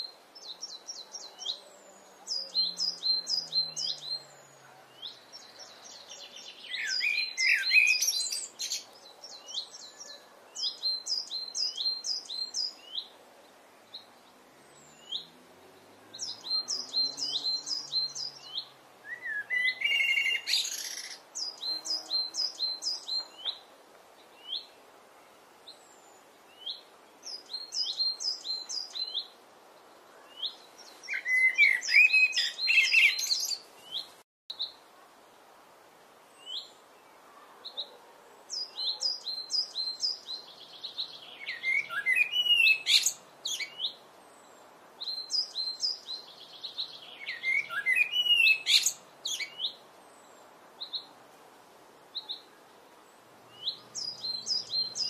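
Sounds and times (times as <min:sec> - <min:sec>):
blackbird singing: 0:00.0 - 0:13.1, 0:13.9 - 0:23.6, 0:25.7 - 0:29.3, 0:30.2 - 0:34.8, 0:37.6 - 0:44.0, 0:45.0 - 0:51.1, 0:52.1 - 0:55.0.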